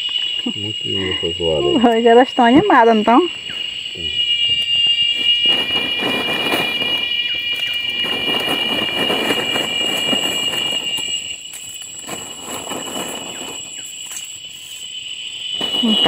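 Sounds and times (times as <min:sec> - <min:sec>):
cicadas buzzing: 0:00.0 - 0:16.0
high insect tone: 0:00.0 - 0:16.0.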